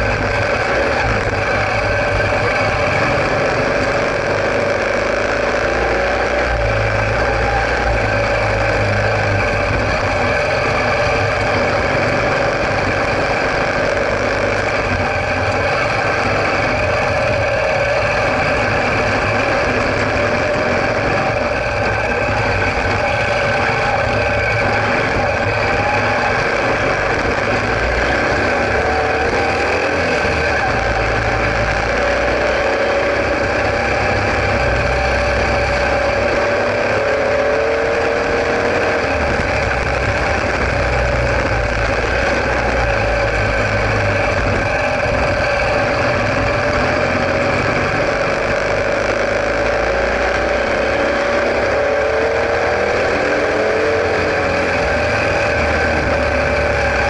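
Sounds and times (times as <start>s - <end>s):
motorcycle engine revving: 0.0s - 57.0s
steady rush of noise: 0.0s - 57.0s.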